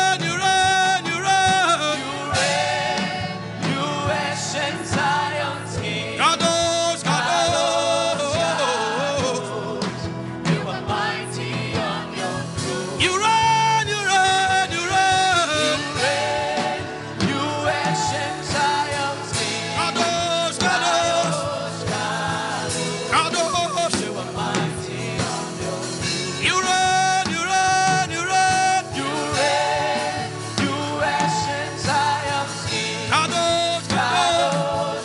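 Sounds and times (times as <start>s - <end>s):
gospel band playing: 0.0s - 35.0s.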